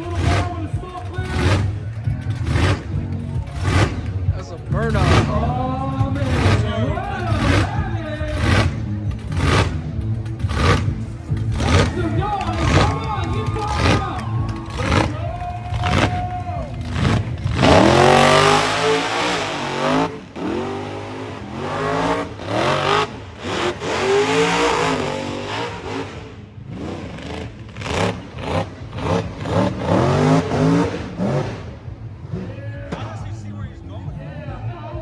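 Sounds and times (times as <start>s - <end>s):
car engine revving hard: 0.0s - 32.6s.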